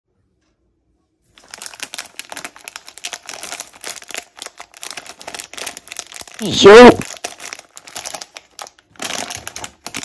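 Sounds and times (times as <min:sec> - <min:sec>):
plastic wrapper crinkling: 0:01.3 - 0:10.0.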